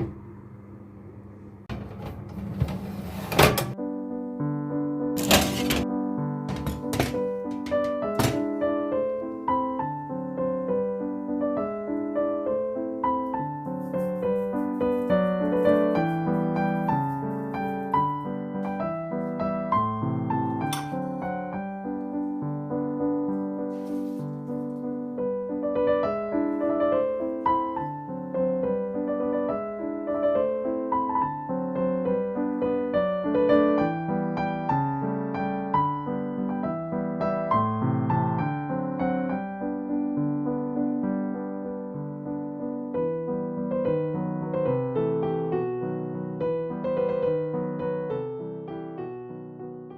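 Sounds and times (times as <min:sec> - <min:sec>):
slow piano music: 0:03.5 - 0:49.9.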